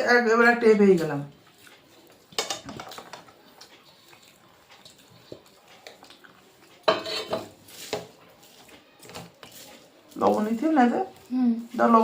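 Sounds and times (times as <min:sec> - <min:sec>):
dishes and utensils clinking: 0:01.0 - 0:10.6.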